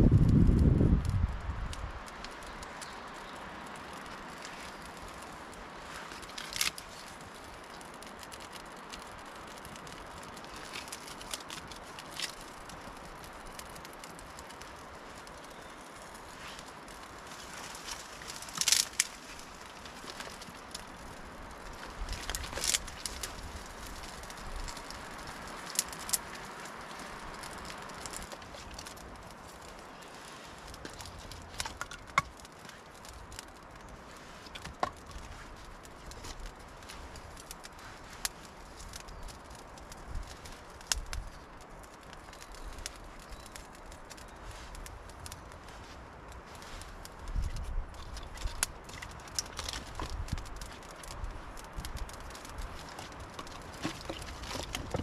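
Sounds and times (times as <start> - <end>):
light rain hissing: 0.0 - 55.0.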